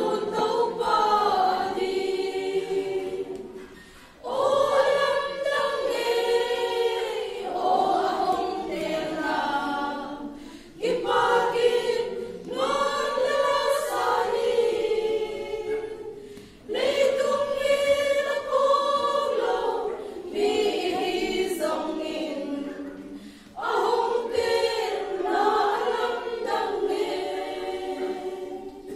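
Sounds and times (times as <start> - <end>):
women's choir singing a hymn: 0.0 - 28.9.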